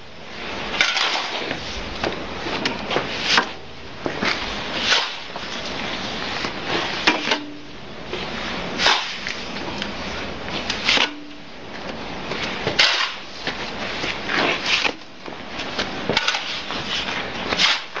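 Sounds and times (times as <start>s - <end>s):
shovel scraping mortar on concrete: 0.4s - 7.6s, 8.2s - 11.4s, 12.3s - 18.0s.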